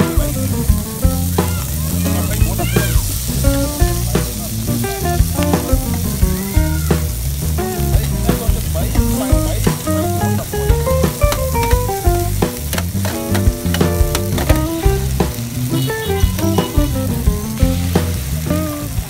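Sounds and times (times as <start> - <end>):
background music: 0.0 - 19.0
rice sizzling in a wok: 0.0 - 19.0.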